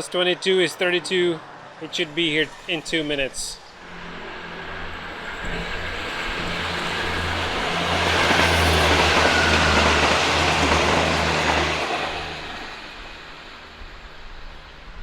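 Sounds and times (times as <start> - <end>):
diesel railcar engine hum: 0.0 - 15.0
wheels rushing on rail: 0.7 - 15.0.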